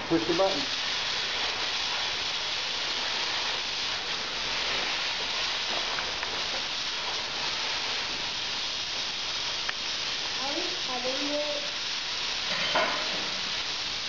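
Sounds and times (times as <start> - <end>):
cutting torch hissing: 0.0 - 14.0
sparks crackling: 0.0 - 14.0.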